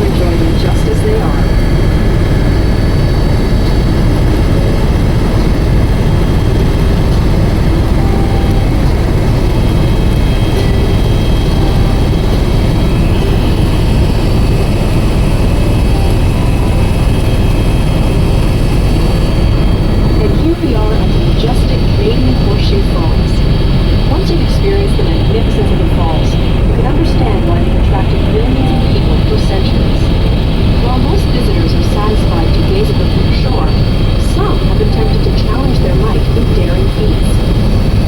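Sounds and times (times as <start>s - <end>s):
faint high whine: 0.0s - 38.0s
helicopter cabin drone: 0.0s - 38.0s.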